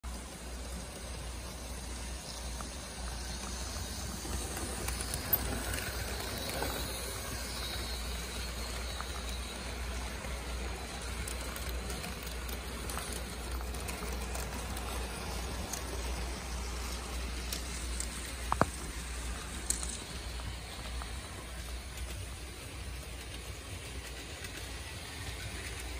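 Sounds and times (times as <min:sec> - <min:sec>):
model train whirring on track: 0:00.0 - 0:25.9.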